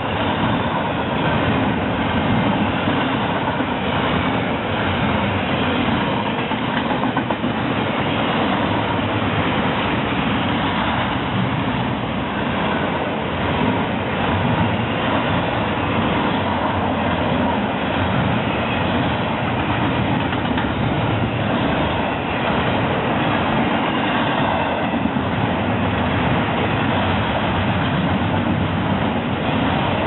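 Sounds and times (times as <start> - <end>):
train clickety-clack: 0.0 - 30.0
train wheels rumbling on rail: 0.0 - 30.0.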